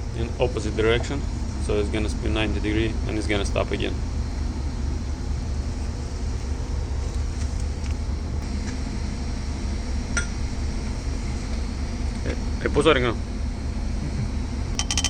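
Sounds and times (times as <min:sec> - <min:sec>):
steady low rumble: 0:00.0 - 0:14.8.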